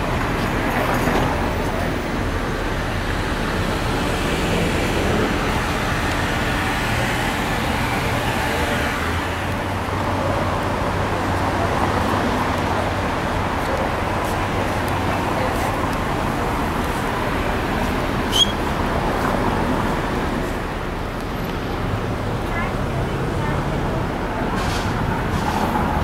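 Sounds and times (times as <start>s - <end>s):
city street traffic hum: 0.0s - 26.0s.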